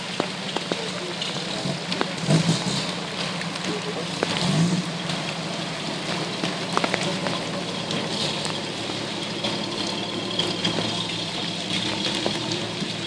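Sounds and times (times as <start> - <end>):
truck engines idling: 0.0 - 13.0.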